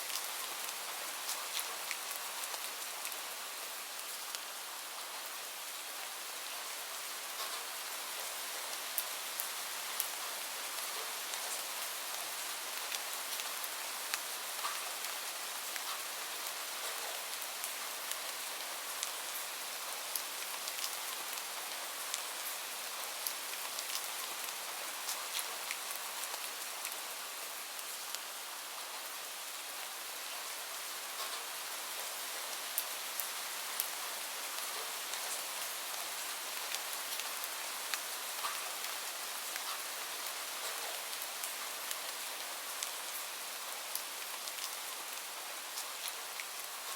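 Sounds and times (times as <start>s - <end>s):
rain on a hard surface: 0.0s - 46.9s.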